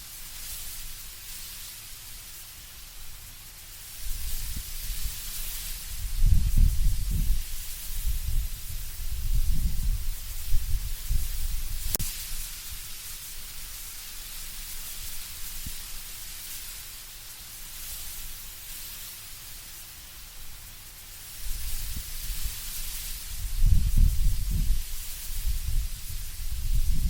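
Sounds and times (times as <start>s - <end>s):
wind rustling leaves: 0.0s - 27.0s.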